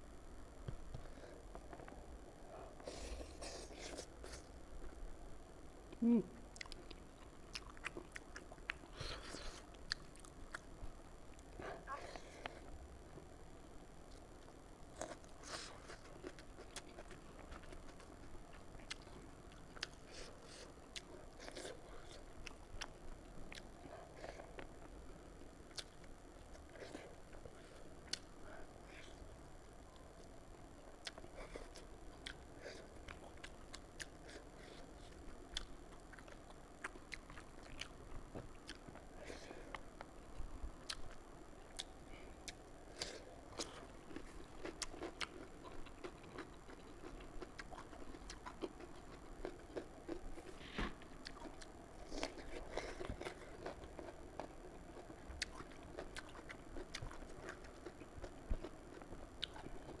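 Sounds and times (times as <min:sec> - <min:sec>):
person chewing food: 0:05.9 - 0:12.8, 0:14.0 - 0:29.3, 0:30.0 - 1:00.0.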